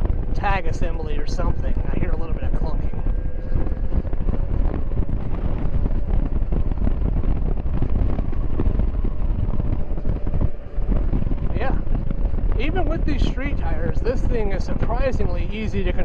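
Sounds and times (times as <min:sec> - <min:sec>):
electric motor whine: 0:00.0 - 0:16.0
road rumble: 0:00.0 - 0:16.0
wind buffeting microphone: 0:00.0 - 0:16.0.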